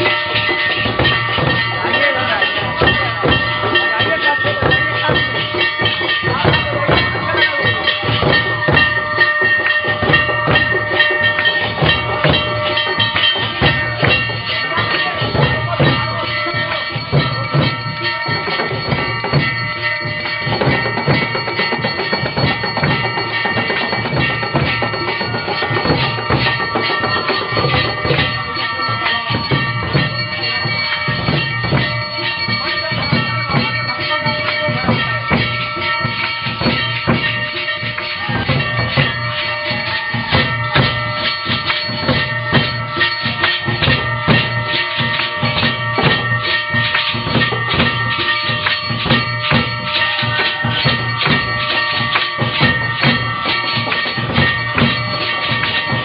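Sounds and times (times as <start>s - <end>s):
fast drumming: 0.0s - 56.0s
held instrumental tones: 0.0s - 56.0s.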